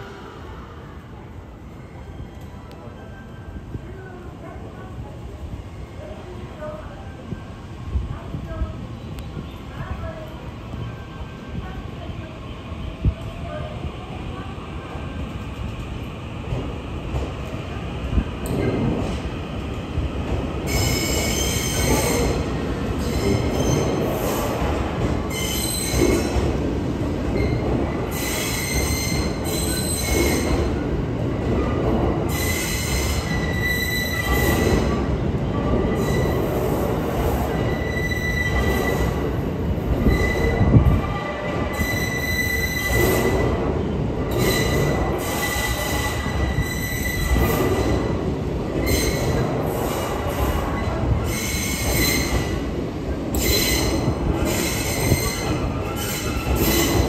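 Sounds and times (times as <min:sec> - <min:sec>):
train wheels rumbling: 0:05.2 - 0:57.0.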